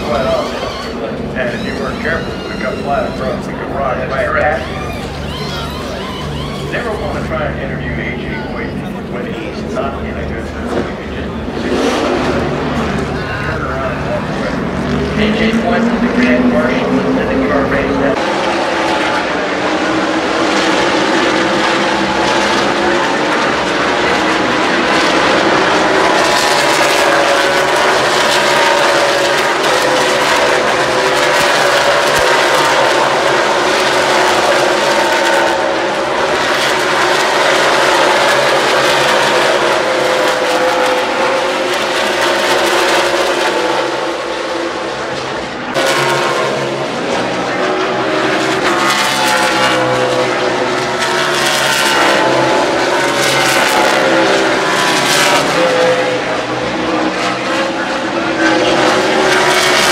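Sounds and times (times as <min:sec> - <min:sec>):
race car engines at high revs: 0:00.0 - 0:59.9.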